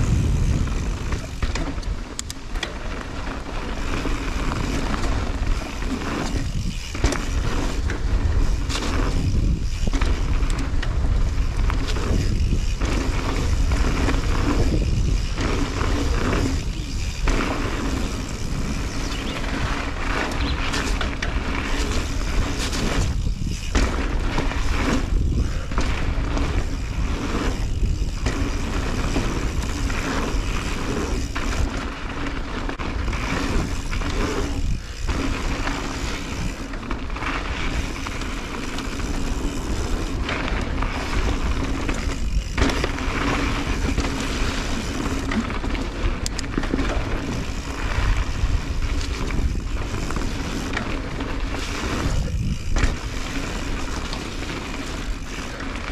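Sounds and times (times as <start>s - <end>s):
bike tyre and rattling noise: 0.0s - 55.9s
wind rumble on microphone: 0.0s - 55.9s.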